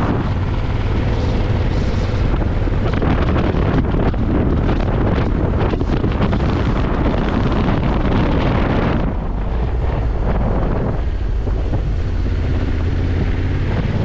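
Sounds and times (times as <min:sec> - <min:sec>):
motorcycle engine drone: 0:00.0 - 0:14.0
wind buffeting microphone: 0:00.0 - 0:14.0.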